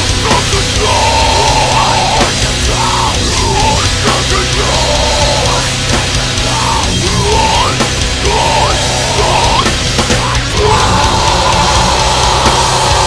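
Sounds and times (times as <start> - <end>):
metalcore band playing: 0.0 - 13.0.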